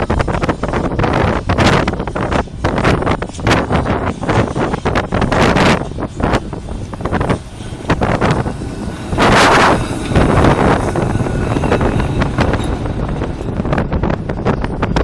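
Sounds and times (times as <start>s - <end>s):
tram rumbling by: 0.0s - 15.0s
wind buffeting microphone: 0.0s - 15.0s
loud rushing burst: 1.3s - 15.0s.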